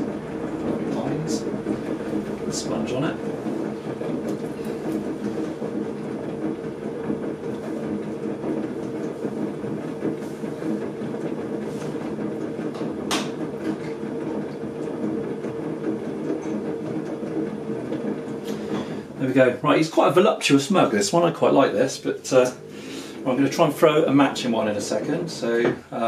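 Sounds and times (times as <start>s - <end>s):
potter's wheel motor hum: 0.0s - 26.0s.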